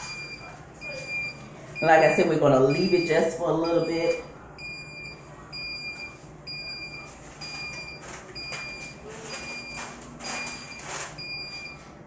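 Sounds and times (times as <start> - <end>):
high-pitched timer beeps: 0.0 - 11.8.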